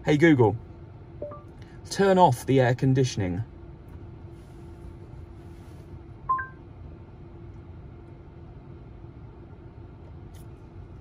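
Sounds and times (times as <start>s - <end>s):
ventilation blower hum: 0.0s - 11.0s.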